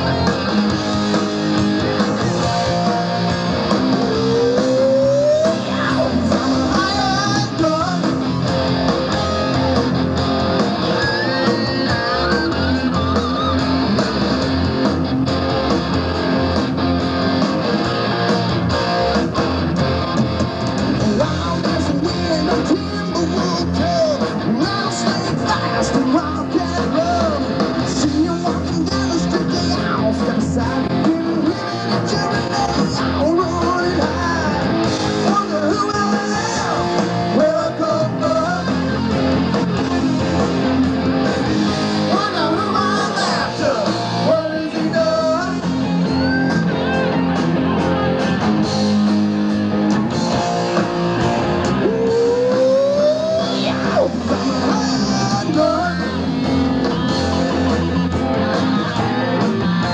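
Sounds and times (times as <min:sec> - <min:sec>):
rock band playing live: 0:00.0 - 0:59.9
sliding guitar lead lines: 0:00.0 - 0:59.9.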